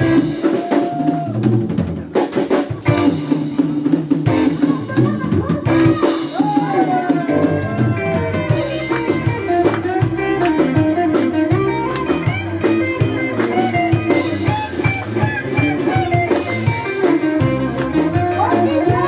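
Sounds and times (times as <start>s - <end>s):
guitar melody: 0.0s - 0.6s, 1.8s - 19.0s
drums steady beat: 0.0s - 19.0s.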